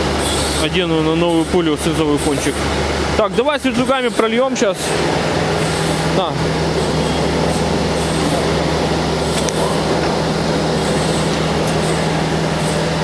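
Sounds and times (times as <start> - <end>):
workshop machinery droning: 0.0 - 13.0.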